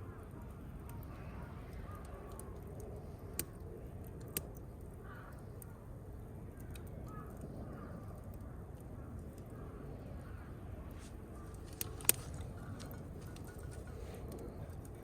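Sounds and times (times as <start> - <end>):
campfire burning and crackling: 0.0 - 15.0.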